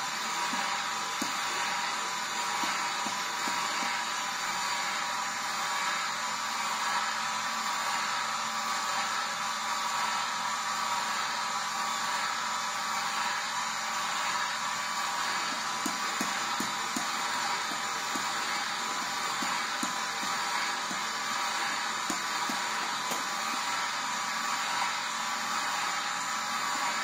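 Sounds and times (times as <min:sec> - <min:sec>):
juicer motor whirring: 0:00.0 - 0:09.6, 0:10.2 - 0:27.0.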